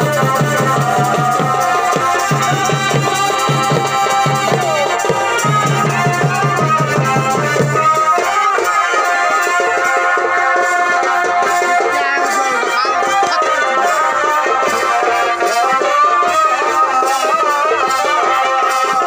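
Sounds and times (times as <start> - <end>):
light drumming: 0.0 - 19.0
reed pipe melody: 0.0 - 19.0.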